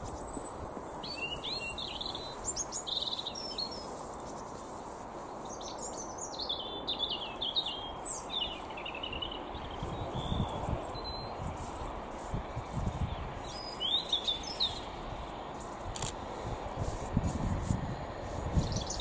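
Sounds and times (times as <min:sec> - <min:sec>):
songbirds singing and chirping: 0:00.0 - 0:16.1, 0:17.4 - 0:19.0
low gusts of noise: 0:00.0 - 0:19.0.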